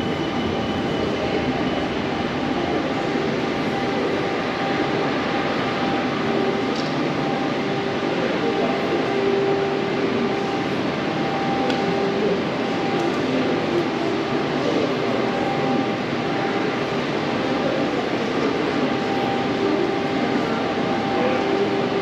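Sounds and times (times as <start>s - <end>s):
humming tone: 0.0s - 22.0s.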